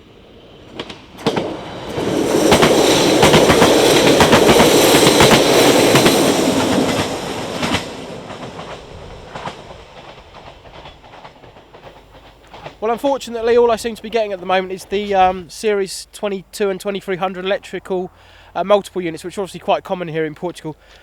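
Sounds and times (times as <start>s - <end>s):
electric train passing: 0.0s - 21.0s
wheels clacking over rail joints: 0.0s - 21.0s.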